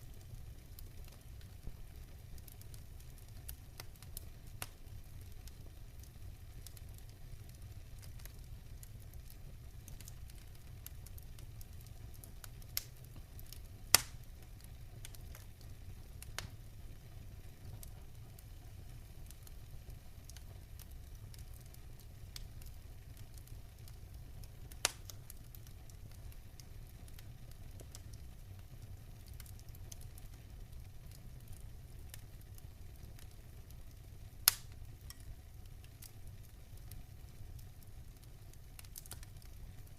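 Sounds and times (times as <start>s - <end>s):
loud pops from burning logs: 0.0s - 16.8s, 17.6s - 39.9s
low rumble of flames: 0.0s - 39.9s
small crackles: 0.0s - 39.9s.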